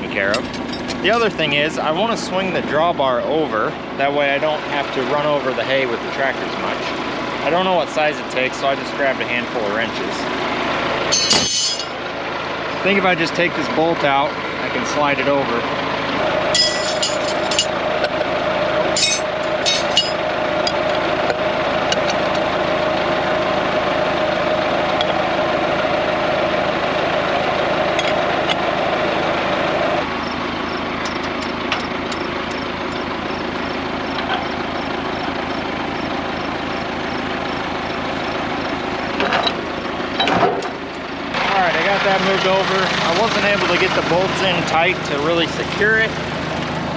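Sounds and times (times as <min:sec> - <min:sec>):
diesel tractor idling: 0:00.0 - 0:46.9
steady whine: 0:00.0 - 0:46.9.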